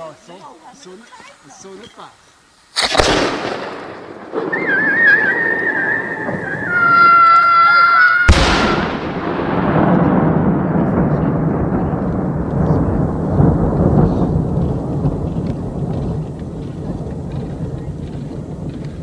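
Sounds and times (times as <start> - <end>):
rolling firework report echo: 2.7 - 19.0.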